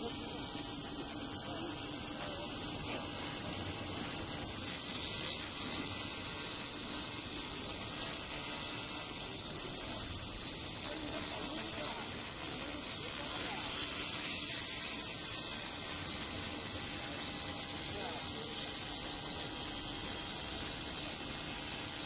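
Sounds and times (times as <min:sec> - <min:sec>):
laser welder hissing: 0:00.0 - 0:22.0.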